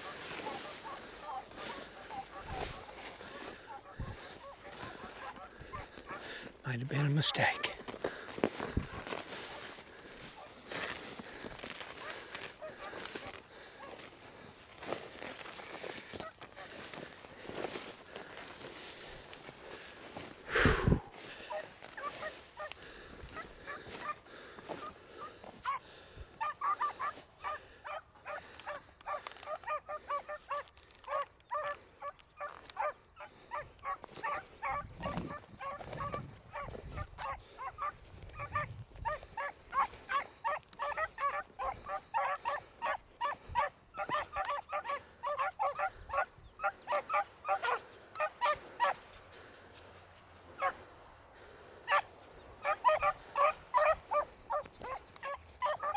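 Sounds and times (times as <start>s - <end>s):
pack of hounds baying: 0.0s - 7.8s, 8.5s - 15.0s, 21.3s - 55.9s.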